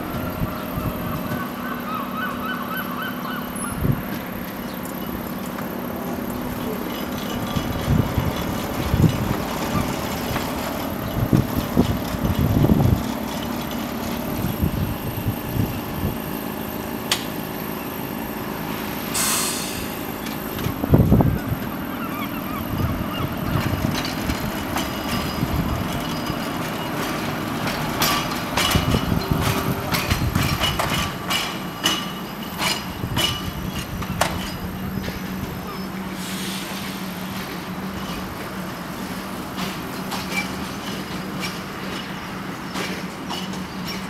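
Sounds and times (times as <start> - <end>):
electric tram rumbling: 0.0 - 44.0
tram humming: 0.0 - 44.0
wheels clattering over rail joints: 3.5 - 19.1, 19.7 - 44.0.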